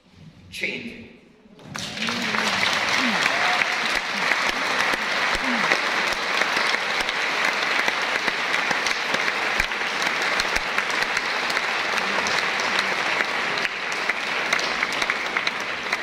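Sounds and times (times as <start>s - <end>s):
large audience applauding: 1.6s - 16.0s.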